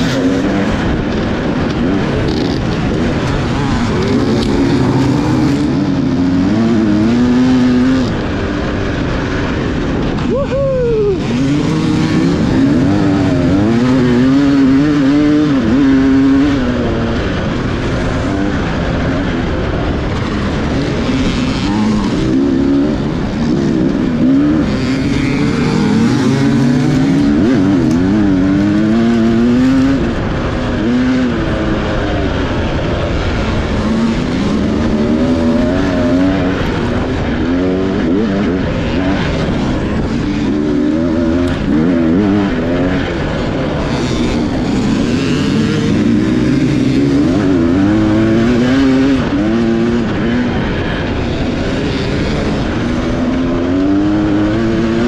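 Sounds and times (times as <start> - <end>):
dirt bike engine revving: 0.0 - 10.4, 11.0 - 55.0.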